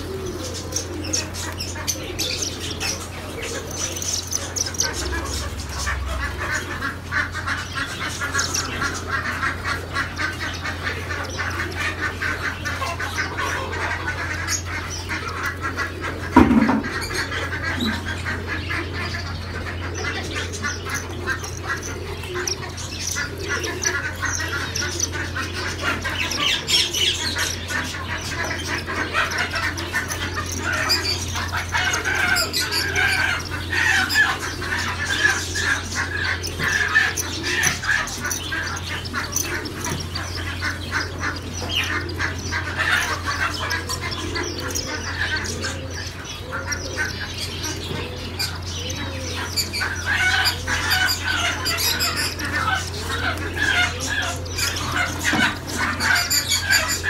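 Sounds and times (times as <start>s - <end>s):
caged birds calling and chirping: 0.0s - 57.0s
steady low hum: 0.0s - 57.0s.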